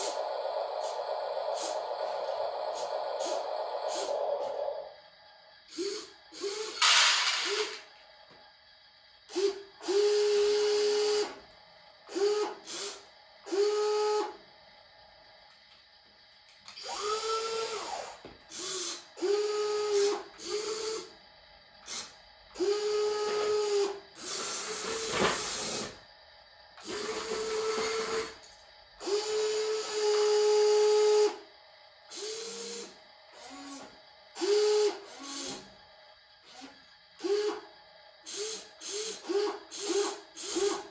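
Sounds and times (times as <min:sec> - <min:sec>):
electric motors whining: 0:00.0 - 0:08.5, 0:09.2 - 0:14.5, 0:16.5 - 0:21.2, 0:21.8 - 0:26.0, 0:26.8 - 0:31.4, 0:32.1 - 0:35.8, 0:36.4 - 0:40.9.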